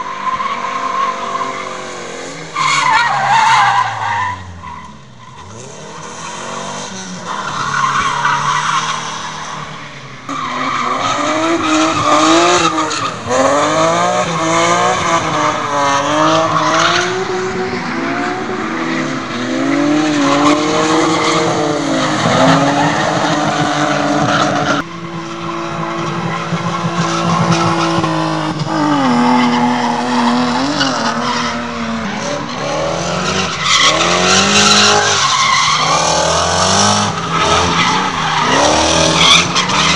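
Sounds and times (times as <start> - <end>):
car engines revving: 0.0 - 39.9
tyres squealing and skidding: 0.0 - 39.9.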